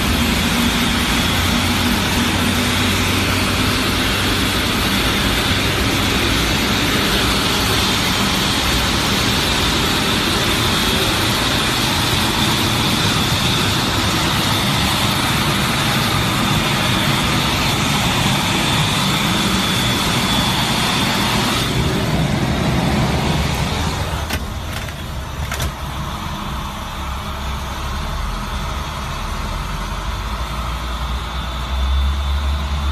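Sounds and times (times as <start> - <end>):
aircraft engine roar: 0.0 - 32.9
high engine whine: 0.0 - 32.9.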